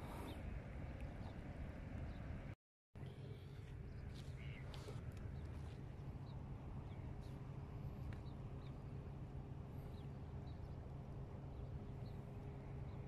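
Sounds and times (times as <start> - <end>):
low rumble of wind and sea: 0.0 - 13.0.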